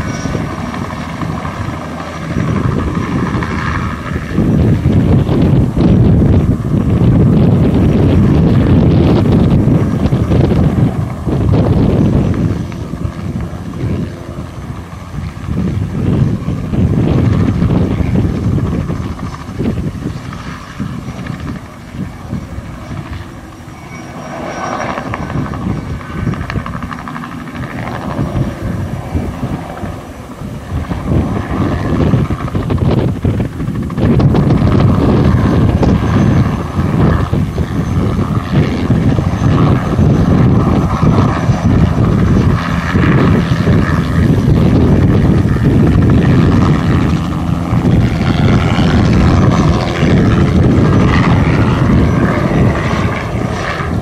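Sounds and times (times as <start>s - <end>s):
helicopter rotor chop: 0.0s - 54.0s
high turbine whine: 0.0s - 54.0s.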